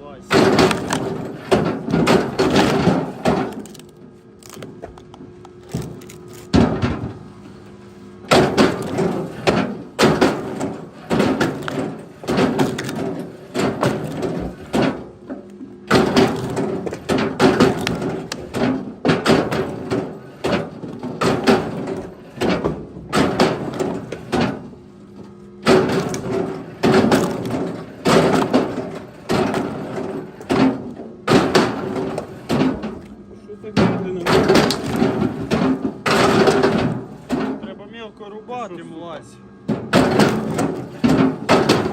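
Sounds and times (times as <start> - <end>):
firewood knocking and clattering: 0.3 - 7.2, 8.3 - 33.1, 33.8 - 37.7, 39.7 - 41.9.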